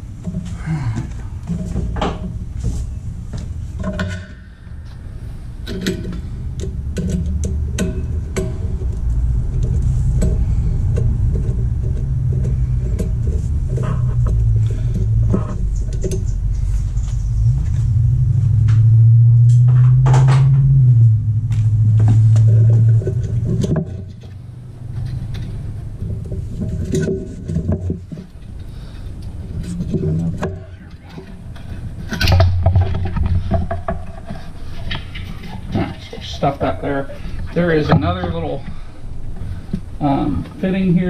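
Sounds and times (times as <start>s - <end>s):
hum: 0.0s - 41.0s
low rumble: 0.0s - 41.0s.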